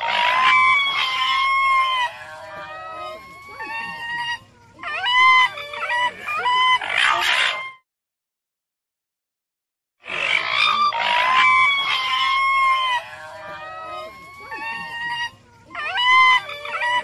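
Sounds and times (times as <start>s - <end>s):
raccoon dogs whining and mewing: 0.0s - 7.8s, 10.1s - 17.0s.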